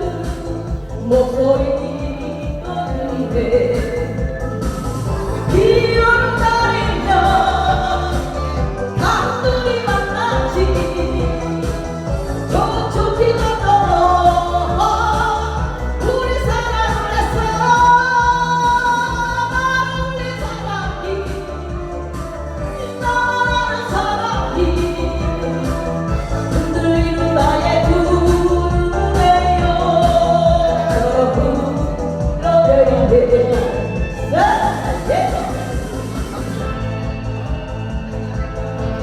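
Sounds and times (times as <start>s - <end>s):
backing track with bass beat: 0.0s - 39.0s.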